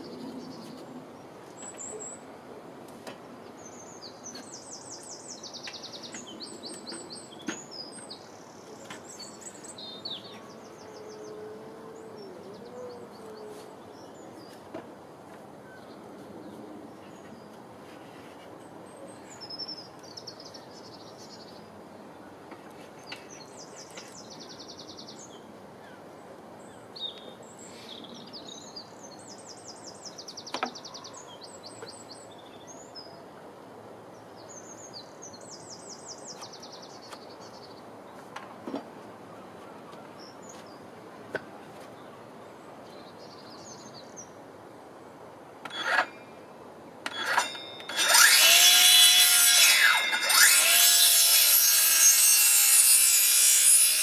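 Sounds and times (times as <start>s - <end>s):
faint outdoor background: 0.0s - 54.0s.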